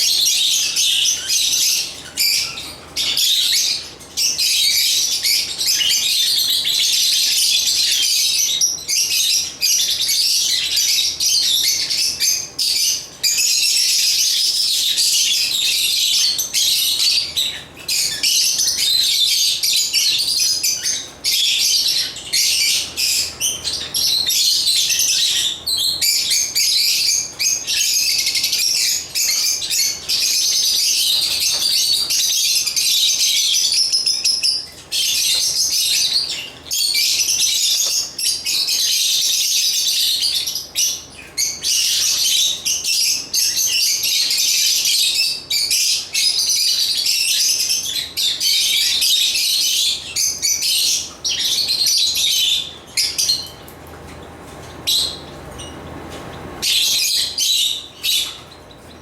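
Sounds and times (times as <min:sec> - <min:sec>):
lovebirds chirping and chattering: 0:00.0 - 0:59.0.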